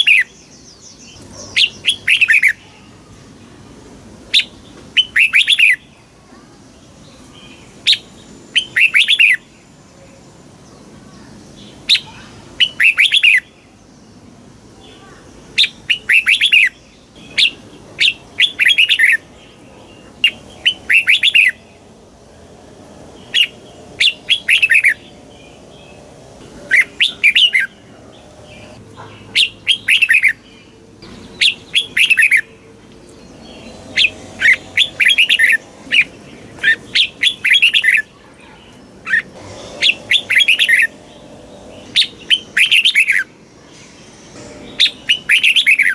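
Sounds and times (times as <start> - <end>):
bird singing warbled phrases: 0.0 - 3.2, 4.3 - 9.8, 10.5 - 45.9.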